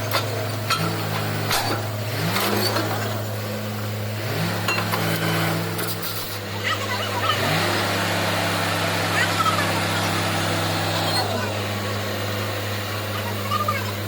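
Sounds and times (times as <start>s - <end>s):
diesel engine and compressor: 0.0s - 14.0s.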